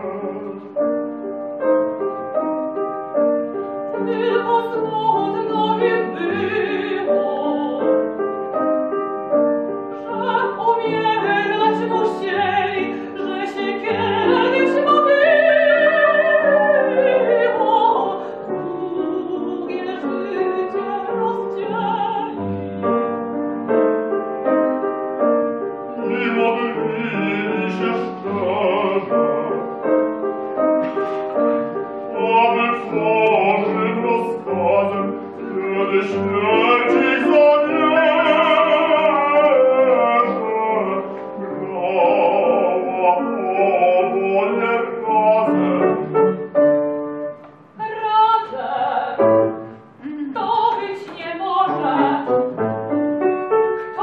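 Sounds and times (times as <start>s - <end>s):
grand piano accompaniment: 0.0s - 54.0s
soprano singing: 0.0s - 54.0s.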